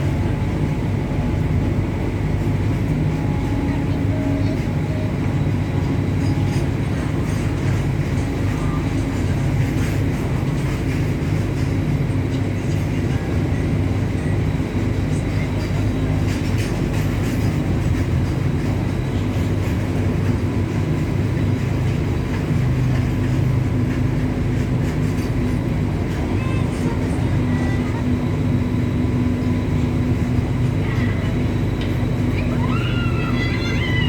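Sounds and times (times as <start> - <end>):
electric locomotive rumbling: 0.0 - 34.0.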